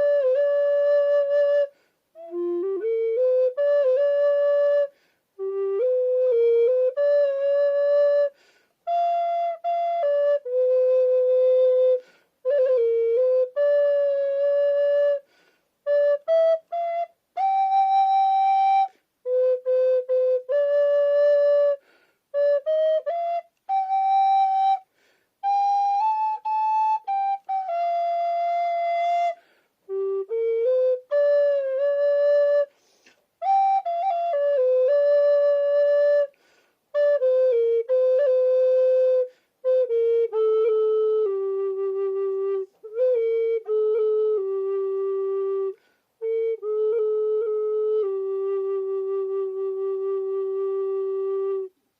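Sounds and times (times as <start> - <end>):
alto recorder melody: 0.0 - 51.9.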